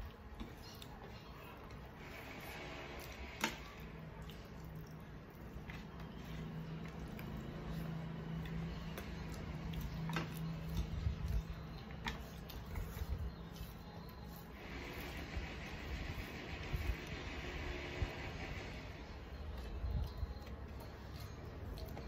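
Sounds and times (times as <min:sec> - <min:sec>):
chewing: 0:00.0 - 0:22.0
fingers squishing rice: 0:00.0 - 0:22.0.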